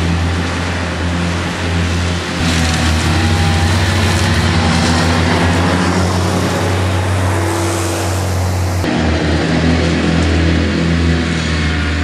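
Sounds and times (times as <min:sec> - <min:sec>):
engine low hum: 0:00.0 - 0:12.0
rotary mower cutting grass: 0:00.0 - 0:12.0.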